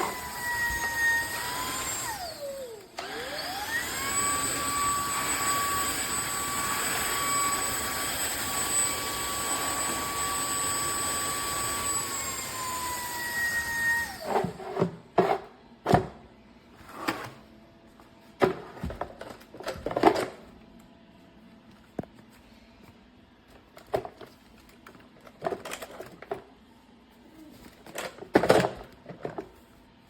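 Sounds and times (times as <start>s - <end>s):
floor cleaner motor whine: 0.0s - 25.8s.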